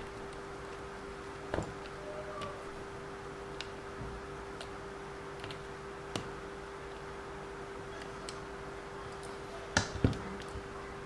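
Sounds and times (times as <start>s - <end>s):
steady faint hum: 0.0s - 11.0s.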